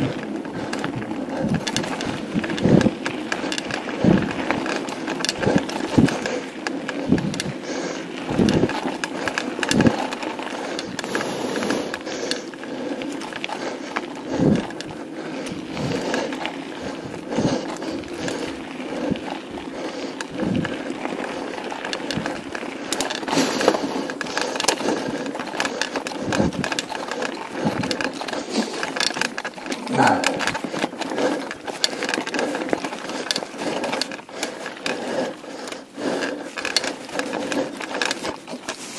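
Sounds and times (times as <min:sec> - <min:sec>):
bike clattering over bumps: 0:00.0 - 0:38.9
tyres crunching on gravel: 0:00.0 - 0:38.9.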